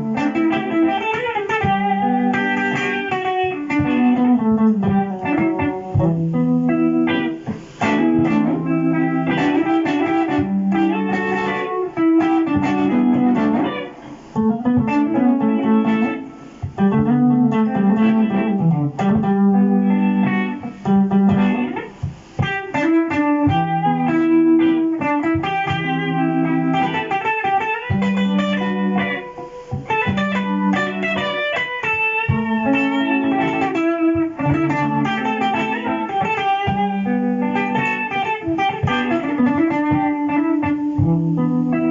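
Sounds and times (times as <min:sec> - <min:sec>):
jazz guitar single-note lines: 0:00.0 - 0:41.9
looped electric guitar riff: 0:00.0 - 0:41.9.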